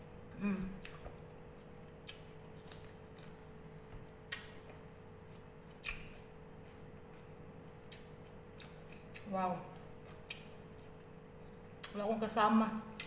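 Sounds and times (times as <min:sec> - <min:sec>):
faint steady hum: 0:00.0 - 0:13.0
chewing: 0:00.7 - 0:12.0.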